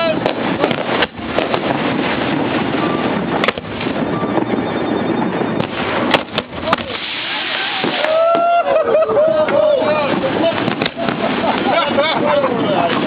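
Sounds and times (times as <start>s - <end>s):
fireworks crackling: 0.0s - 4.6s, 5.6s - 8.5s, 9.8s - 13.0s
fireworks bangs: 0.0s - 8.6s, 9.4s - 13.0s.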